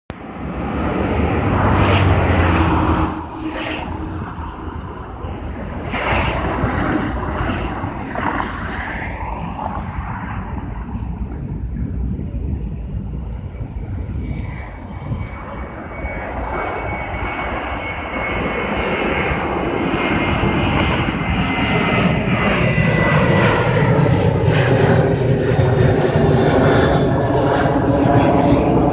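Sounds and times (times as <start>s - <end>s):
engine drone: 0.1s - 28.9s.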